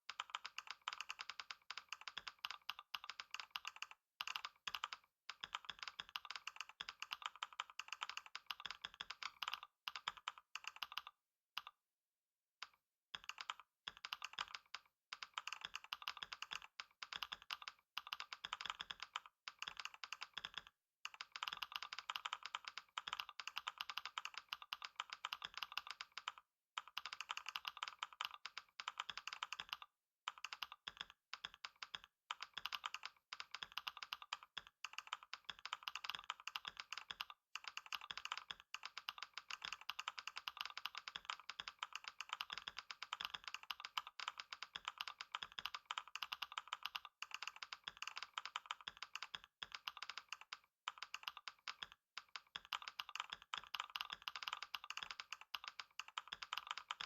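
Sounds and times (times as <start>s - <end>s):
fast typing on keyboard: 0.1s - 11.8s, 12.6s - 57.0s.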